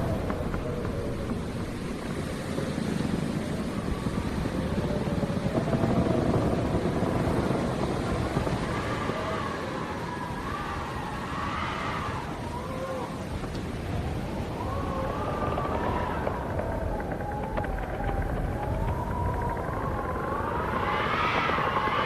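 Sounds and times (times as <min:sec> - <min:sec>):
howling wind: 0:00.0 - 0:22.0.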